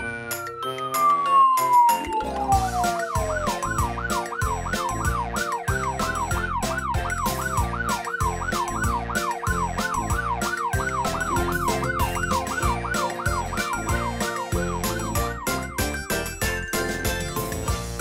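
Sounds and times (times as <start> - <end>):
upbeat background music: 0.0 - 18.0
fast yelp siren: 0.4 - 16.0.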